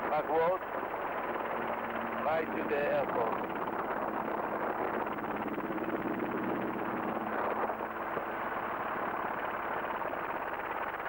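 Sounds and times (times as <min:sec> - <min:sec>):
helicopter engine and rotors droning: 0:00.0 - 0:11.0.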